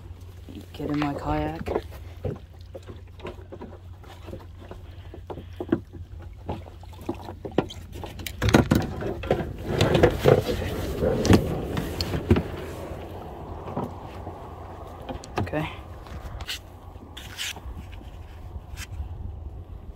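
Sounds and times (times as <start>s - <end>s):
kayak hull knocking and scuffing: 0.2s - 19.3s.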